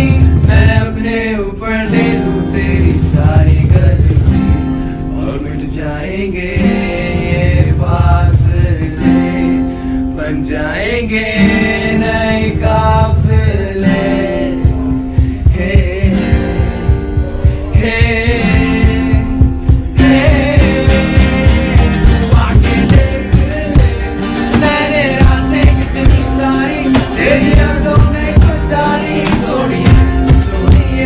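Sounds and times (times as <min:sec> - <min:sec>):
steady beat: 0:00.0 - 0:09.6, 0:10.9 - 0:31.0
guitar accompaniment: 0:00.0 - 0:31.0.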